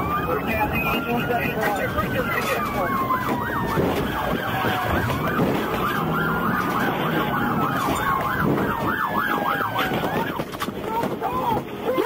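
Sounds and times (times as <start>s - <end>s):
slow gliding siren tone: 0.0s - 10.5s
engine and road noise: 0.0s - 12.0s
police siren yelping: 0.0s - 12.0s.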